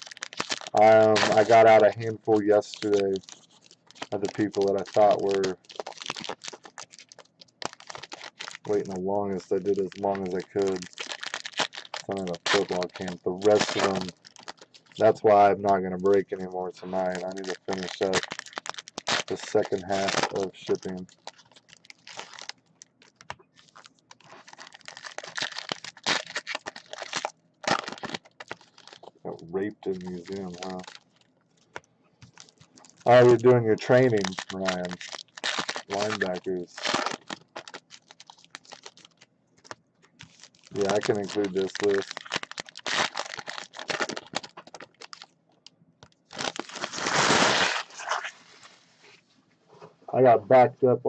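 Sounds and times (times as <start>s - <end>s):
card pack wrappers tearing: 0.0s - 31.1s, 32.3s - 45.3s, 46.3s - 48.3s.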